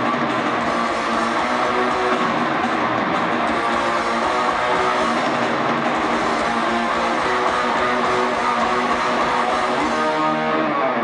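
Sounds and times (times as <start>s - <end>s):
metal band playing live: 0.0s - 11.0s.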